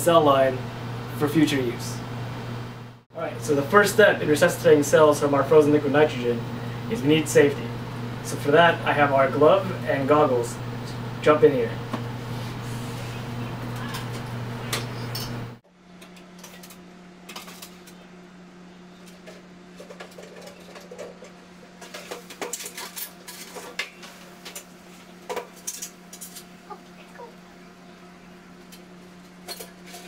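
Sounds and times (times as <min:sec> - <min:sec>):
electrical hum of lab equipment: 0:00.0 - 0:30.0.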